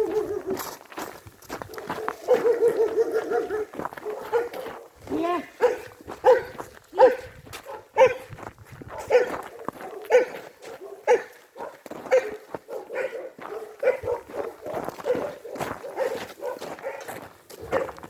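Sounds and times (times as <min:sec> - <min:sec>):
dog barking: 0:00.0 - 0:00.6, 0:01.7 - 0:08.3, 0:08.9 - 0:18.0.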